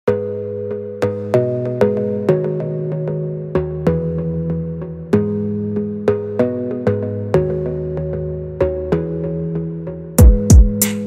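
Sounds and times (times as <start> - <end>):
background music with struck notes: 0.1 - 11.0.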